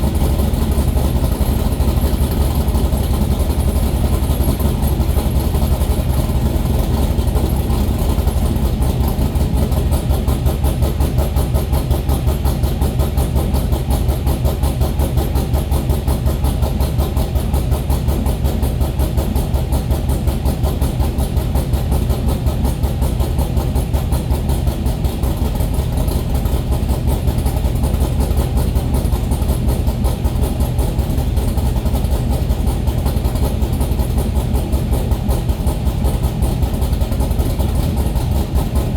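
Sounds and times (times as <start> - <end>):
engine idling with pulsing beat: 0.0 - 38.9.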